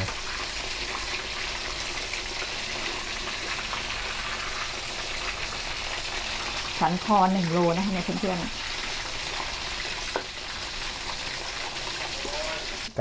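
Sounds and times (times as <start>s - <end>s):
meat sizzling in hot oil: 0.0s - 12.9s.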